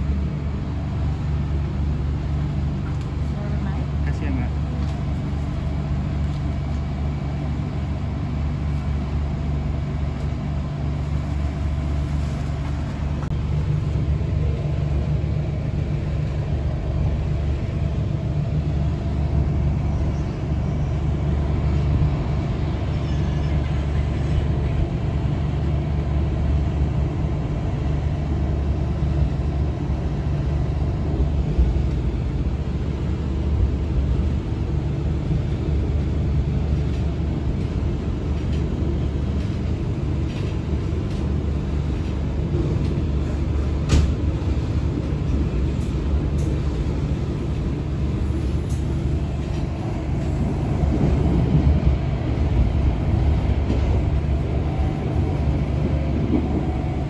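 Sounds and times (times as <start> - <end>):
train interior rumble and hum: 0.0 - 57.0.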